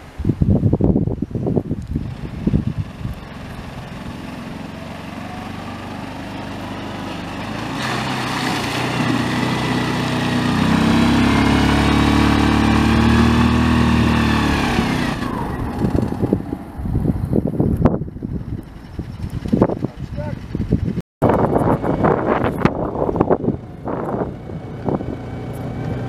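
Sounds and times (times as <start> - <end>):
quad bike engine: 1.8 - 26.0.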